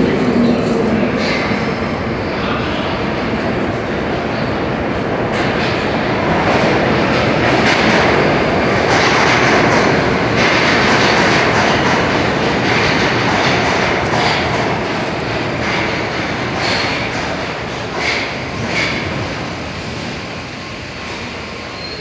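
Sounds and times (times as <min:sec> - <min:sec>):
subway train running: 0:00.0 - 0:22.0.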